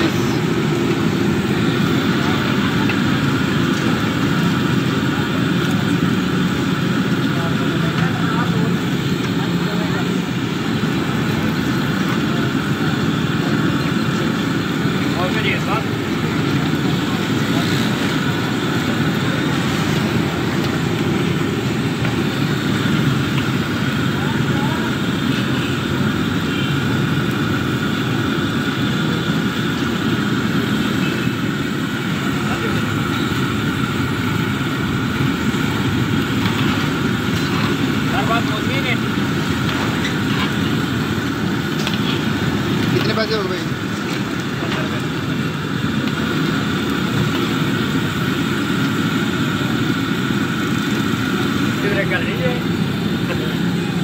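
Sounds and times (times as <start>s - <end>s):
food deep-frying in hot oil: 0.0s - 54.0s
steady low rumble: 0.0s - 54.0s.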